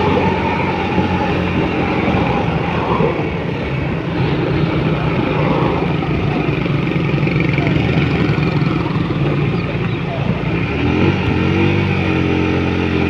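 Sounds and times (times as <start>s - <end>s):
wind on microphone: 0.0s - 10.6s
motorcycle engine running: 0.0s - 13.0s.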